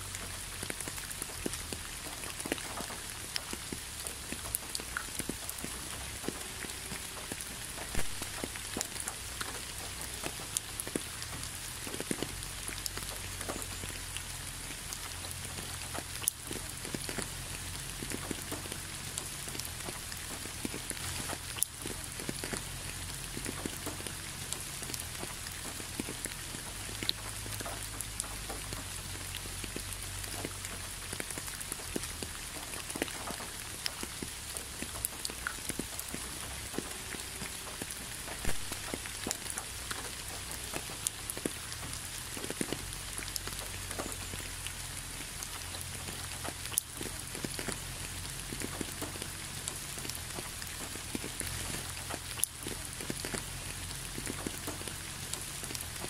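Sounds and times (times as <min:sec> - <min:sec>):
rain on concrete: 0:00.0 - 0:56.0
raindrop ticks: 0:00.0 - 0:56.0.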